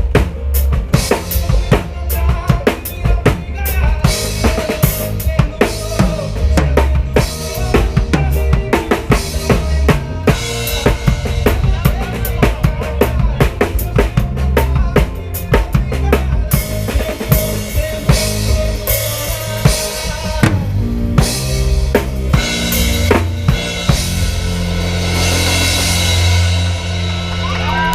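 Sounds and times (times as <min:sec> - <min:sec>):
bass line: 0:00.0 - 0:27.9
drum kit hits: 0:00.0 - 0:27.9
live band playing: 0:00.0 - 0:27.9.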